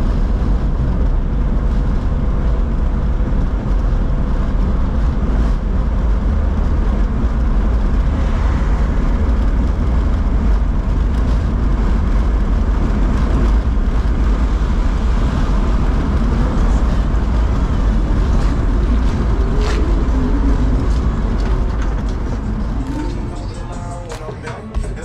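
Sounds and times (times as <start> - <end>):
street noise with low rumble: 0.0 - 25.0.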